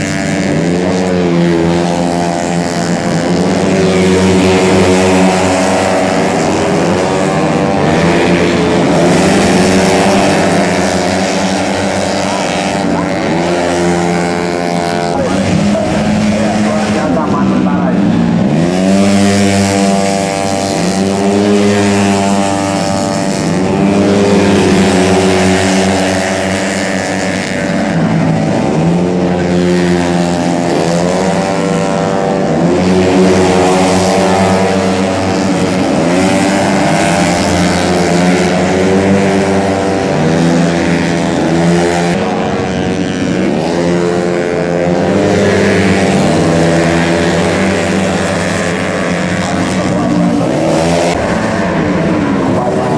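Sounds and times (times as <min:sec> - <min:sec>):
racing scooters revving past: 0:00.0 - 0:52.9.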